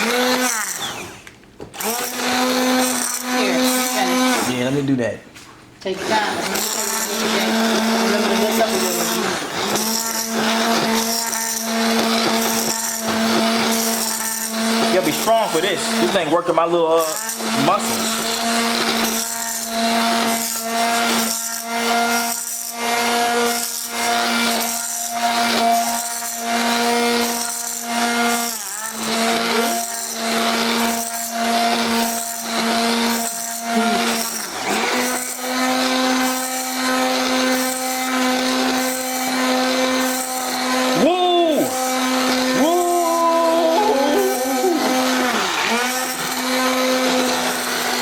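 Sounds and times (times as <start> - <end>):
electric mixer whining: 0.0 - 5.0, 5.8 - 48.0.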